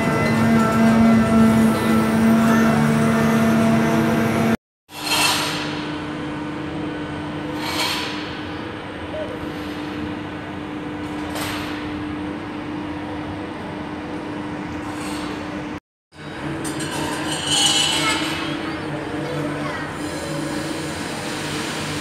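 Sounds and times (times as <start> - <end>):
machine engine drone: 0.0 - 22.0.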